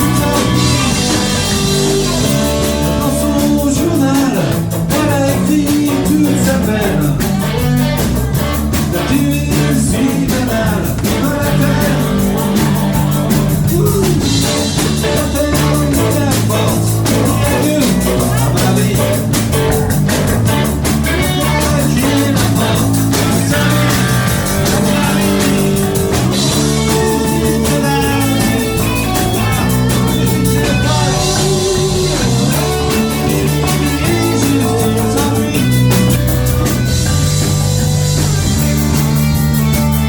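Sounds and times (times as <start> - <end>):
bass: 0.0 - 40.0
drums keeping a steady beat: 0.0 - 40.0
electric guitar: 0.0 - 40.0.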